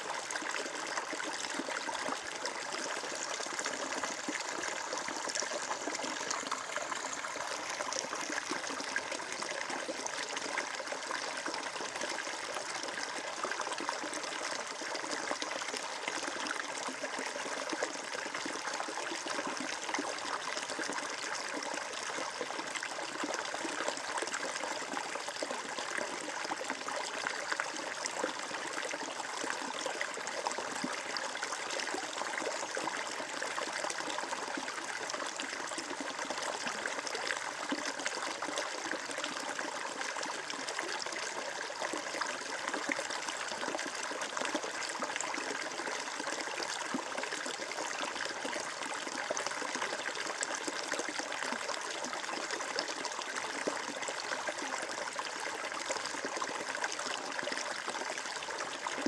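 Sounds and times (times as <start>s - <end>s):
stream water flowing over stones: 0.0s - 59.0s.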